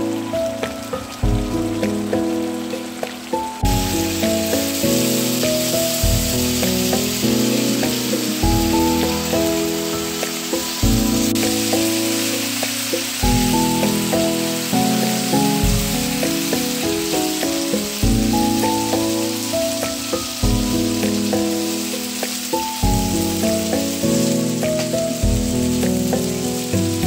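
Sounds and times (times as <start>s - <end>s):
background music: 0.0s - 27.0s
chicken sizzling in pan: 0.0s - 27.0s.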